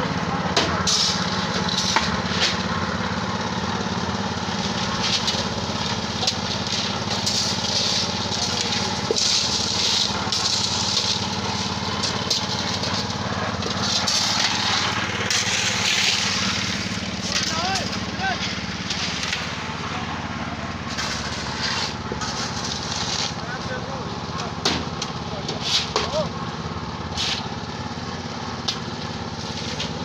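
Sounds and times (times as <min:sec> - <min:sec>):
concrete mixer engine running: 0:00.0 - 0:30.0
gravel rattling and scraping: 0:04.3 - 0:30.0.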